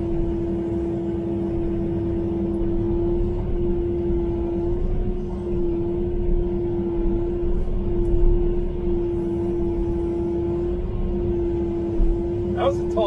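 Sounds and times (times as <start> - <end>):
excavator diesel engine under load: 0.0 - 13.0.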